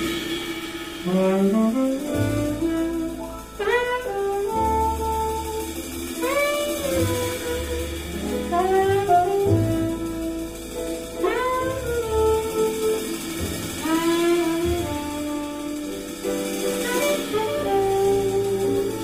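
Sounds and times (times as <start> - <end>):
jazz bass piano and drums: 0.0 - 19.0
alto saxophone melody: 1.0 - 19.0.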